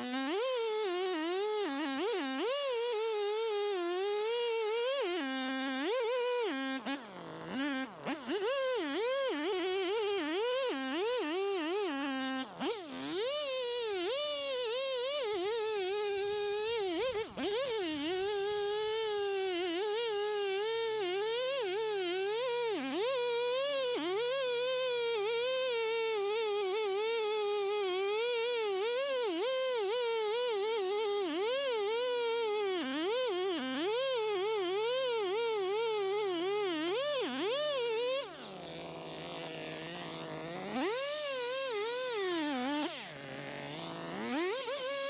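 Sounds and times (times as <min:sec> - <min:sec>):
chainsaw cutting tree: 0:00.0 - 0:45.0.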